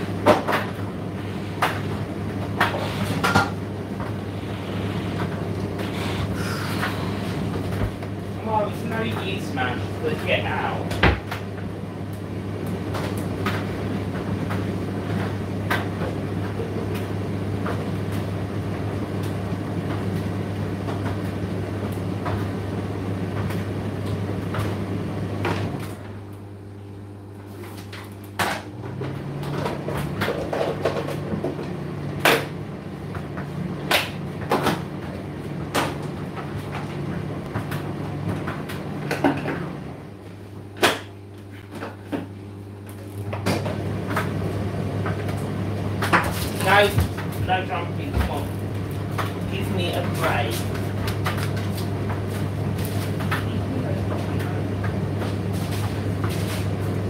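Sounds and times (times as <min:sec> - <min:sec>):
quieter low-pitched hum: 0:00.0 - 0:57.0
tumble dryer humming: 0:00.0 - 0:57.0.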